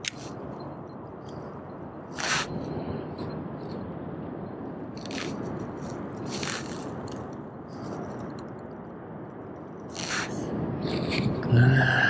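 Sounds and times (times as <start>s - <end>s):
steady rushing background: 0.0s - 12.0s.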